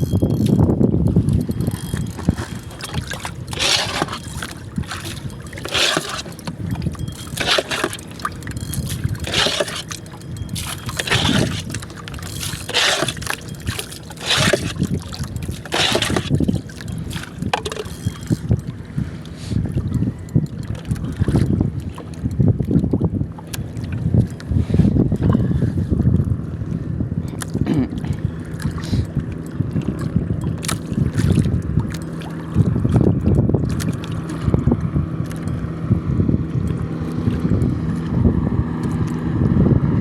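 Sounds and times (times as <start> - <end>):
paddle strokes splashing water: 0.0 - 25.5, 27.4 - 35.6
wind rumble on microphone: 0.0 - 40.0.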